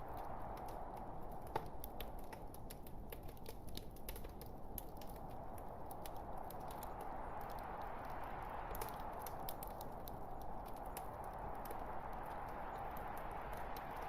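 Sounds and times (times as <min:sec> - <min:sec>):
log fire crackling and popping: 0:00.0 - 0:14.0.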